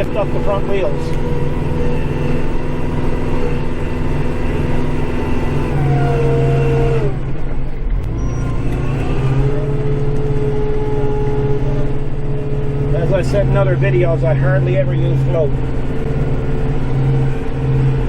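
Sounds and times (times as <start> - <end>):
steady whine: 0.0 - 18.0
tractor diesel engine running: 0.0 - 18.0.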